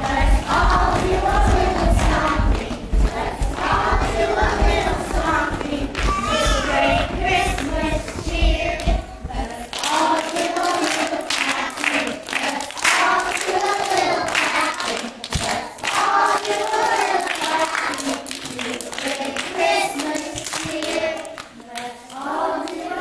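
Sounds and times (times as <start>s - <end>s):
children singing: 0.0s - 23.0s.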